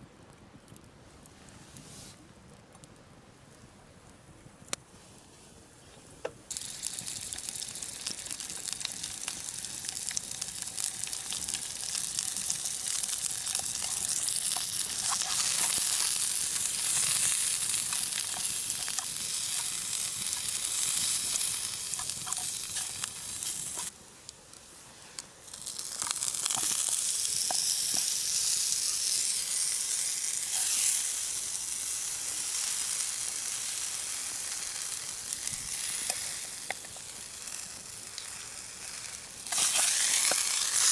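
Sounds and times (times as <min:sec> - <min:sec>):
food sizzling in a pan: 0:06.5 - 0:24.0, 0:24.7 - 0:40.9.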